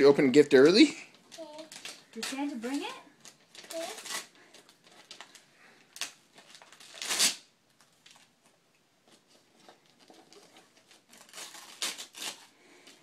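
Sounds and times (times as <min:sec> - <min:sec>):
wrapping paper crinkling and tearing: 0:01.1 - 0:08.5, 0:09.1 - 0:13.0.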